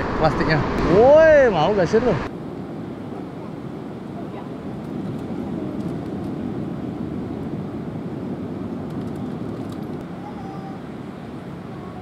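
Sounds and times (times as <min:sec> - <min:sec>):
beach surf: 0:00.0 - 0:12.0
wind rumble on microphone: 0:00.0 - 0:12.0.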